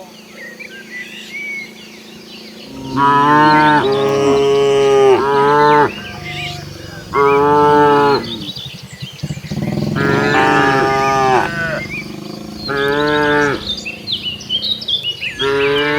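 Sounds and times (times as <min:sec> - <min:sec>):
cattle mooing: 0:02.7 - 0:15.9.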